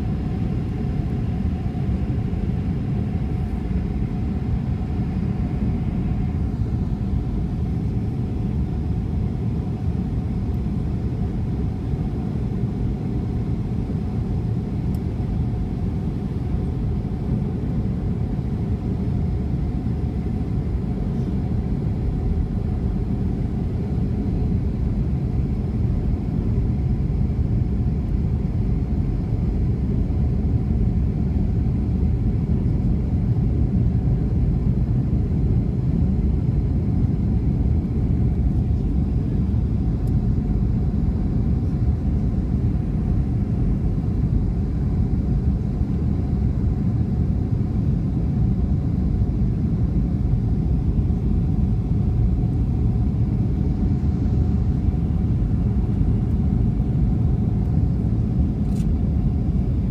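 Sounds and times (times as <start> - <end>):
airliner engines rumbling: 0.0 - 59.9
steady hum: 0.0 - 59.9.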